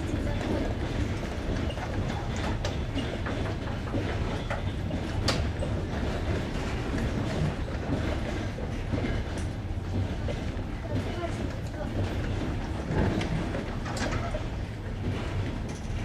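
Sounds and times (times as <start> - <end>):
train rumbling: 0.0 - 16.0
train wheels clicking over rail joints: 0.0 - 16.0.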